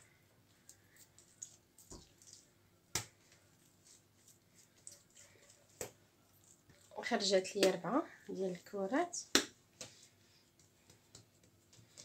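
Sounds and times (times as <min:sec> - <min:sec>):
hands patting dough: 0:00.0 - 0:08.0, 0:09.2 - 0:12.0.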